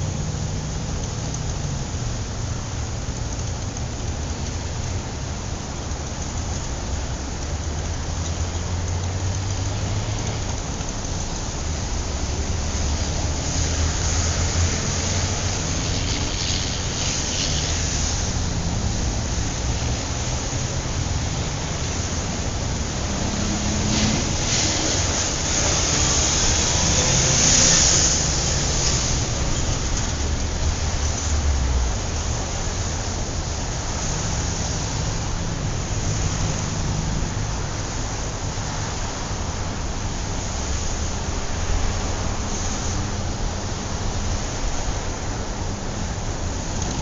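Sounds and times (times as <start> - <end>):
cars passing with tyre hiss: 0.0 - 47.0
traffic engine rumble: 0.0 - 47.0.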